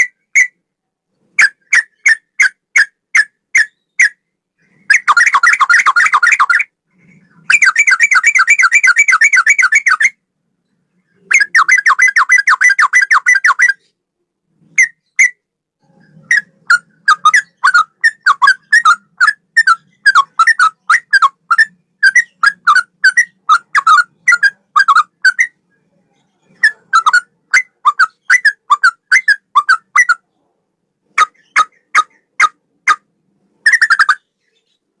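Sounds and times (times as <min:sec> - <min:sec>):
bird song trills and whistles: 0:00.0 - 0:00.6, 0:01.4 - 0:14.0, 0:14.6 - 0:30.3, 0:31.2 - 0:34.9.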